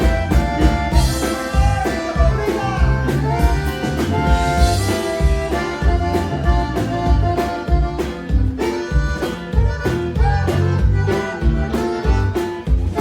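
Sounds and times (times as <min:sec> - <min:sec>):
accordion-like melody: 0:00.0 - 0:13.0
bass: 0:00.0 - 0:13.0
drums keeping steady beat: 0:00.0 - 0:13.0.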